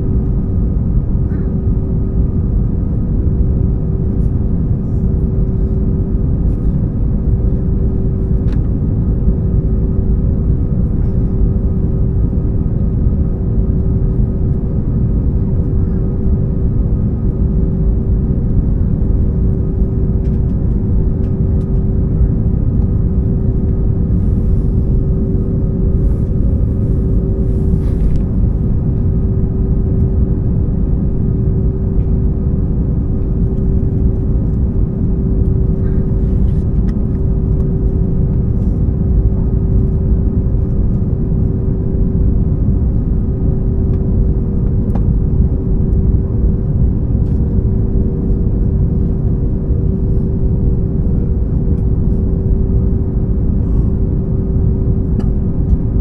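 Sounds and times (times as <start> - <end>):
airliner cabin noise: 0.0 - 56.0
steady hum: 0.0 - 56.0.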